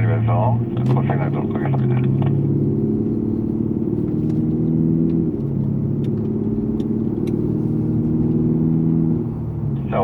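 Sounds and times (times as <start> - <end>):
car engine accelerating: 0.0 - 10.0
gear shift pitch drop: 0.0 - 10.0.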